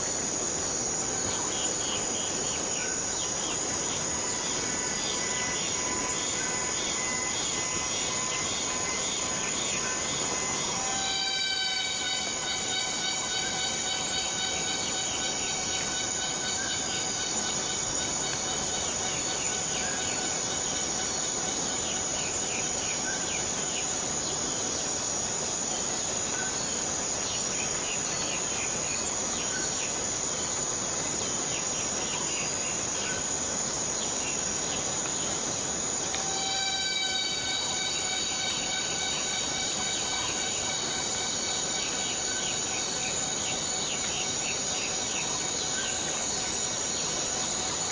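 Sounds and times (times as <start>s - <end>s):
high whining insect drone: 0.0s - 47.9s
short insect chirps: 0.0s - 47.9s
steady rain: 0.0s - 47.9s.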